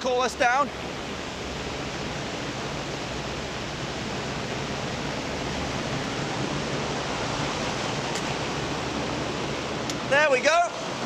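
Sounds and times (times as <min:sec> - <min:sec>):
drum fan rushing air: 0:00.0 - 0:11.0.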